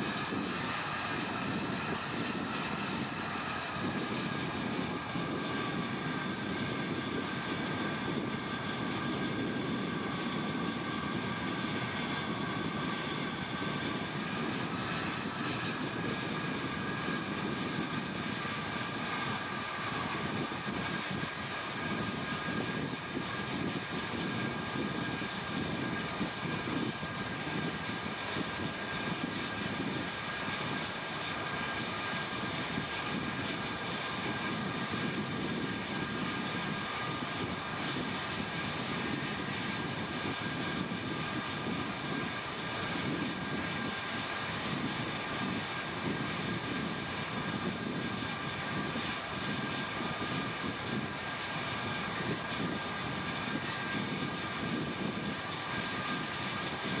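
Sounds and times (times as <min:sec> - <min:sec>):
jet engine whining: 0:00.0 - 0:57.0.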